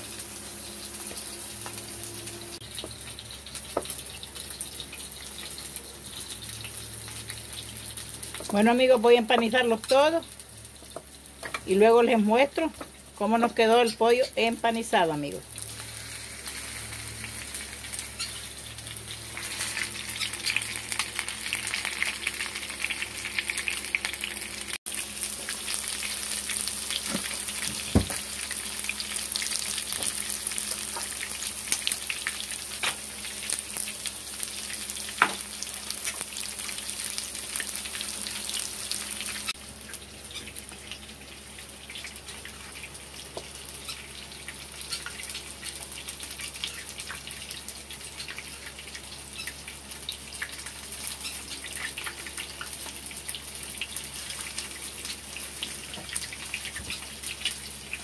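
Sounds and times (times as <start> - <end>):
chicken frying in oil: 0.0 - 58.0.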